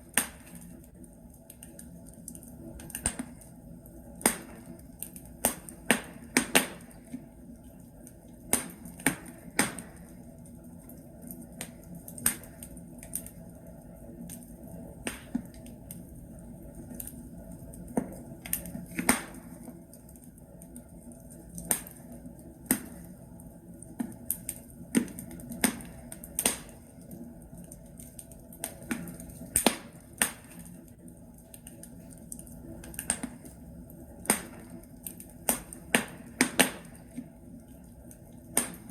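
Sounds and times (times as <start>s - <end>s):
burning logs crackling: 0.0s - 38.9s.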